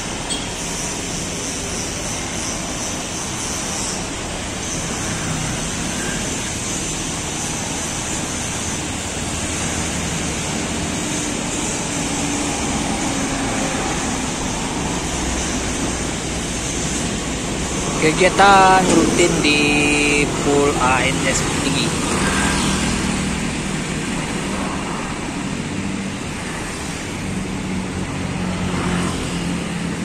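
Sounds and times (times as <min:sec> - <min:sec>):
motorcycles passing: 0:00.0 - 0:30.0
road traffic rumble: 0:00.0 - 0:30.0.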